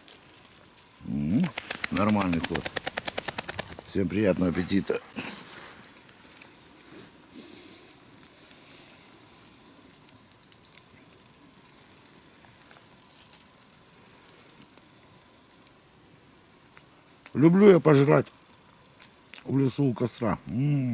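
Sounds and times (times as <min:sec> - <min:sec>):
campfire crackling: 0:00.0 - 0:20.9
soft steady hiss: 0:00.0 - 0:20.9.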